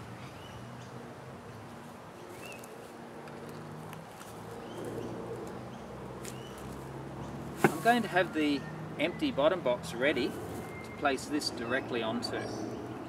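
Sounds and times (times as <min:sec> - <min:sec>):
birds chirping: 0:00.0 - 0:02.9, 0:04.2 - 0:13.0.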